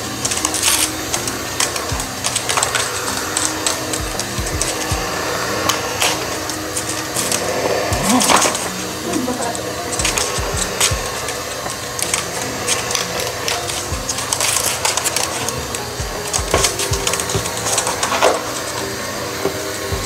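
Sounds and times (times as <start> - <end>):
vacuum cleaner running: 0.0 - 20.0
background music with a beat: 0.1 - 20.0.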